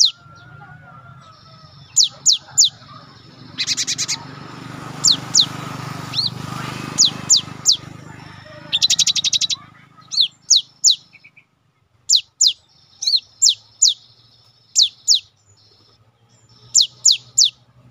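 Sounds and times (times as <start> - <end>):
bird singing high notes: 0.0 - 0.5, 1.2 - 11.5, 12.1 - 17.6.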